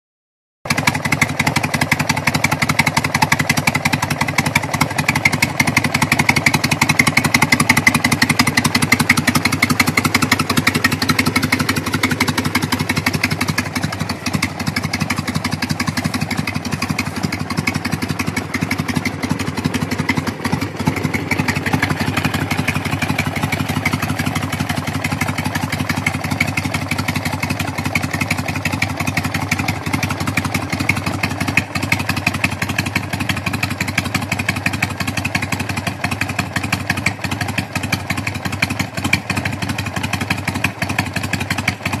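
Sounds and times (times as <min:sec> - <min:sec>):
motorcycle engine idling: 0:00.7 - 0:42.0.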